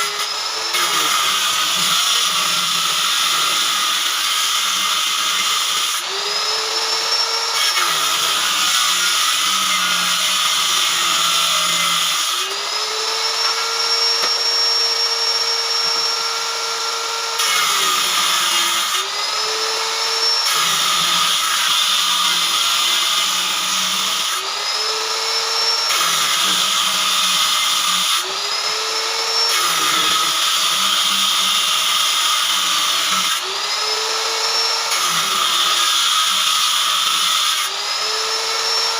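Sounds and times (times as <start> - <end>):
power tool cutting wood: 0.0 - 38.9.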